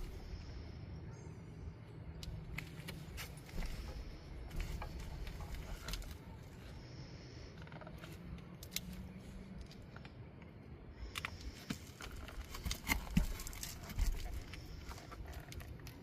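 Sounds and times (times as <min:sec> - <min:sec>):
steady low rumble: 0:00.0 - 0:16.0
hands working on shingles: 0:02.2 - 0:06.8, 0:07.5 - 0:16.0.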